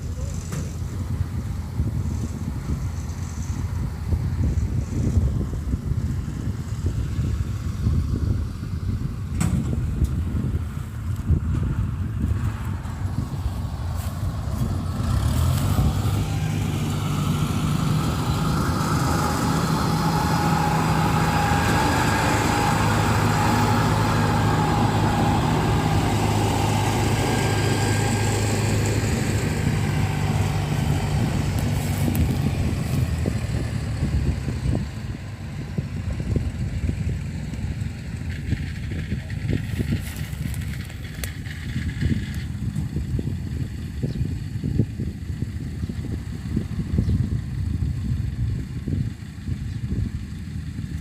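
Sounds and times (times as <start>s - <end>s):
combine harvester diesel engine humming: 0.0s - 51.0s
machinery whine: 8.5s - 51.0s.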